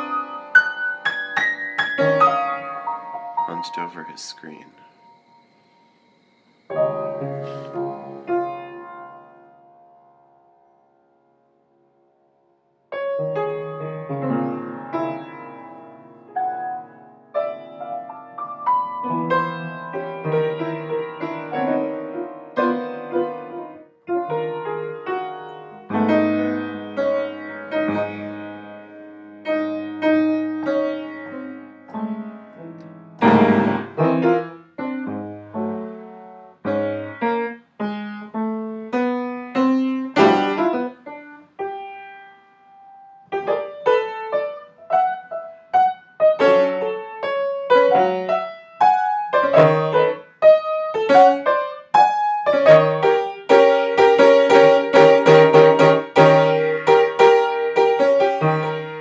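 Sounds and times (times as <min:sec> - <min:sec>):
piano notes and chords: 0:00.0 - 0:59.0.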